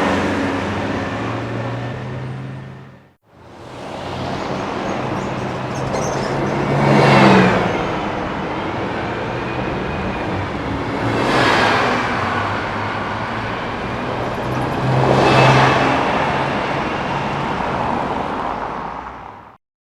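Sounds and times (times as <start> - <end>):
buses driving past: 0.0 - 19.6
tyre and road noise: 0.0 - 19.6.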